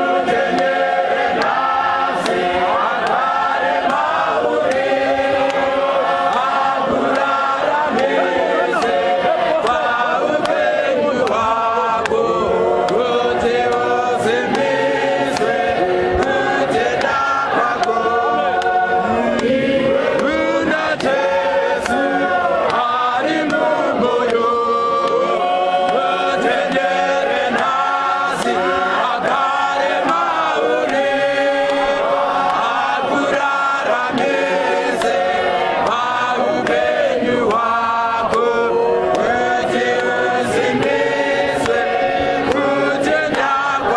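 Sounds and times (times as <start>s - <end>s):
choir singing a hymn: 0.0s - 43.9s.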